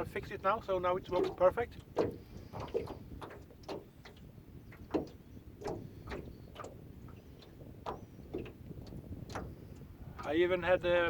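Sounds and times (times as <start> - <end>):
low rumble of wind: 0.0 - 11.0
waves slapping boat hull: 0.0 - 11.0.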